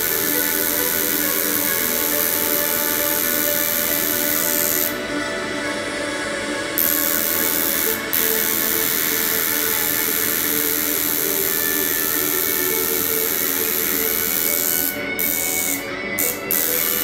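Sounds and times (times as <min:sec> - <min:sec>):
tattoo machine buzzing: 0:00.0 - 0:05.0, 0:06.8 - 0:17.0.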